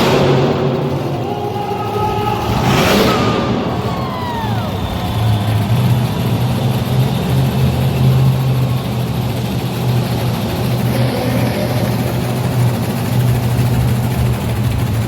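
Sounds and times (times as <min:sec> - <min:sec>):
large engine droning: 0:00.0 - 0:15.0.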